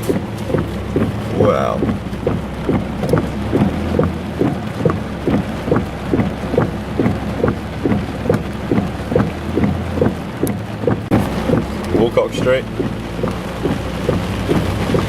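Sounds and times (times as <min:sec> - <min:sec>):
car engine hum: 0:00.0 - 0:15.0
heavy rain: 0:00.0 - 0:15.0
windscreen wipers swishing: 0:00.0 - 0:15.0.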